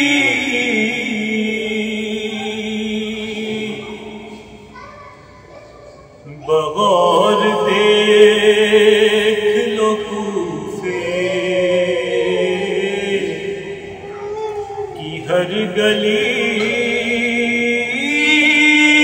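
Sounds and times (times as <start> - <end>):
man chanting unaccompanied: 0.0 - 4.3, 6.3 - 13.8, 14.9 - 19.0.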